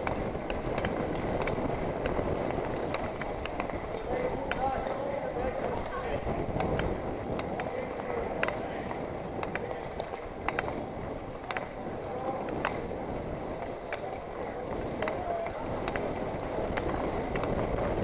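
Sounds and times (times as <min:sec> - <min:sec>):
rushing noise of skating: 0:00.0 - 0:18.0
skate blades scraping ice: 0:00.0 - 0:18.0.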